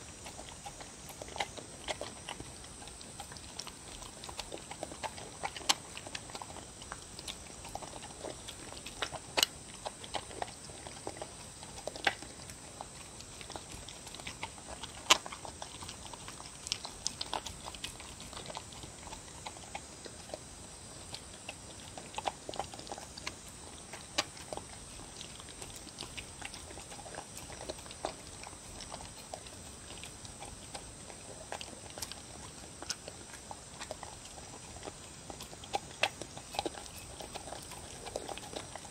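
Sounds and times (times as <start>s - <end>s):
dog lapping and chewing: 0.0s - 38.9s.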